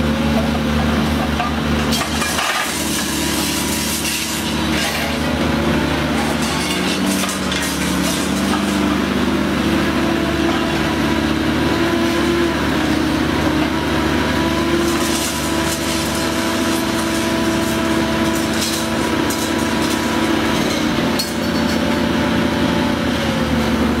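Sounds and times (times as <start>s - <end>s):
hydraulic machine humming: 0.0s - 24.0s.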